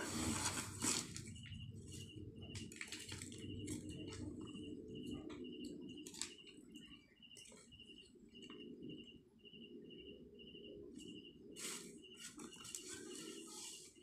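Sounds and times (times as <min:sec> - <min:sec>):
cricket chirping: 0:01.0 - 0:13.5.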